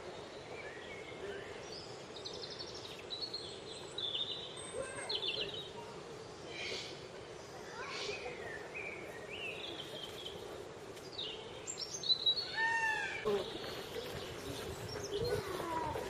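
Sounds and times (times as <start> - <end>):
birds chirping and calling: 0.2 - 16.0.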